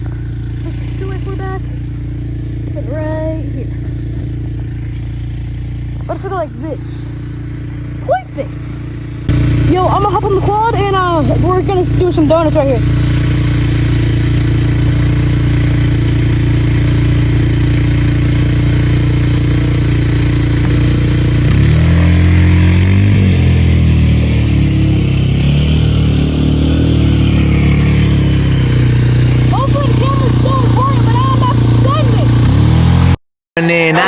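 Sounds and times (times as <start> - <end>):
quad engine idling and revving: 0.0 - 34.0.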